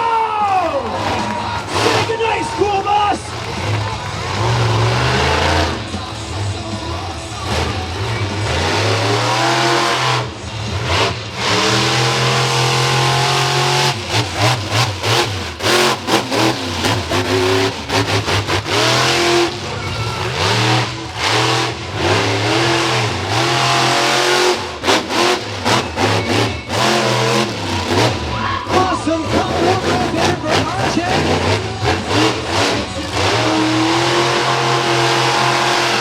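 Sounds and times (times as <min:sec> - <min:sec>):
truck engine revving: 0:00.4 - 0:36.0.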